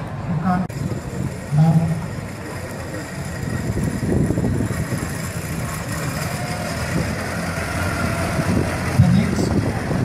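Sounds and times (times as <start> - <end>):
small car engine running slowly: 0.7 - 10.0.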